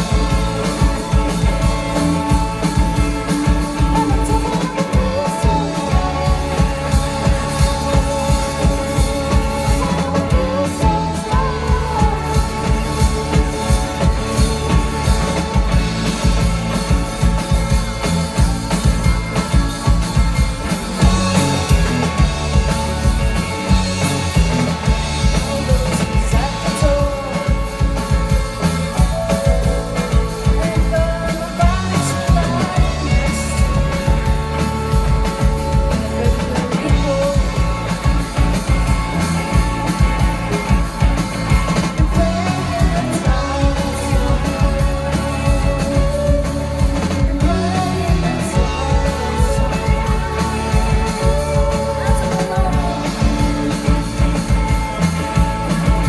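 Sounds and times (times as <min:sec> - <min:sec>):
bass guitar: 0:00.0 - 0:56.0
drums: 0:00.0 - 0:56.0
electric guitars: 0:00.0 - 0:56.0
keyboard: 0:00.0 - 0:56.0.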